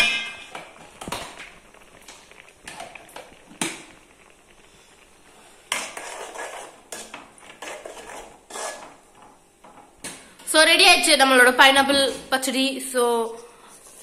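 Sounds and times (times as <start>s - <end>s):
spoon stirring and scraping pan: 0.0s - 10.6s, 13.2s - 14.0s.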